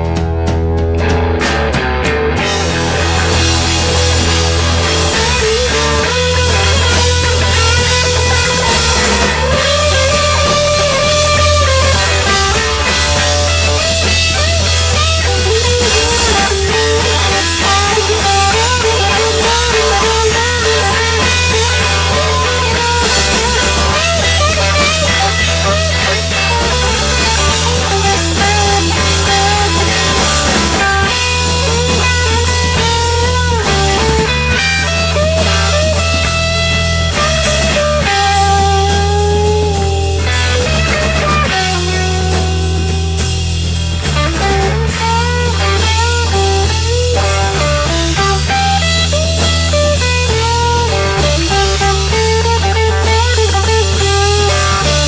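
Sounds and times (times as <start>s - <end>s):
electric guitar lead with bending notes: 0.0s - 55.0s
heavy bass line: 0.0s - 55.0s.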